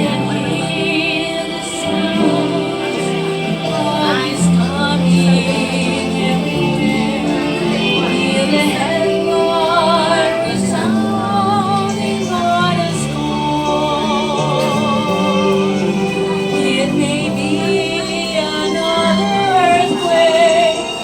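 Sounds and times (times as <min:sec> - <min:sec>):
person singing with vibrato: 0:00.0 - 0:21.0
sustained chords: 0:00.0 - 0:21.0.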